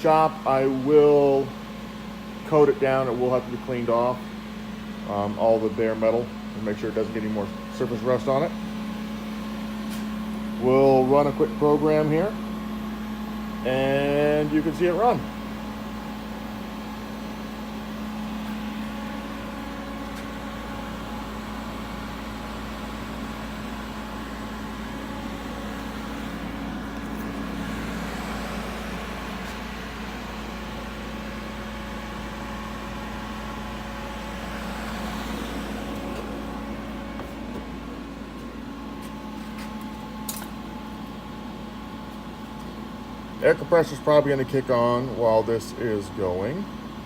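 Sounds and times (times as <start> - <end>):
cnc router humming: 0.0 - 47.0.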